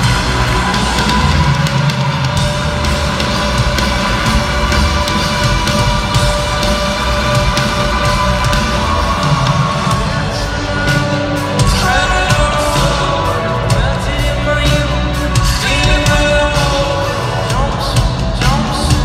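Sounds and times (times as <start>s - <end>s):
drums hitting: 0.0s - 19.0s
guitar: 0.0s - 19.0s
live rock band: 0.0s - 19.0s.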